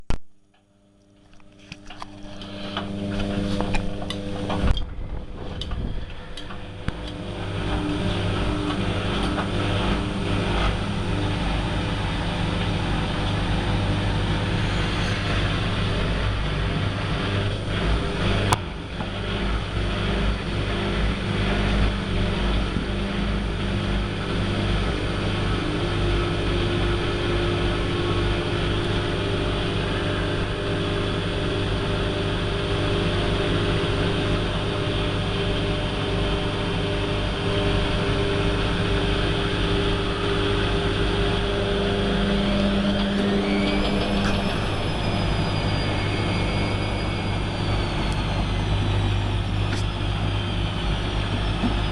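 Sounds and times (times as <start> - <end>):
washing machine running: 1.2 - 51.9.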